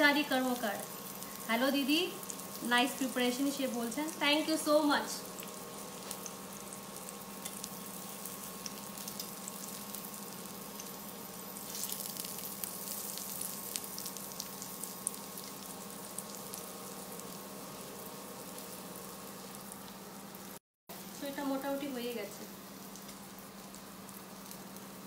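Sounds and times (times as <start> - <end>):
kebabs sizzling in butter: 0.0 - 25.0.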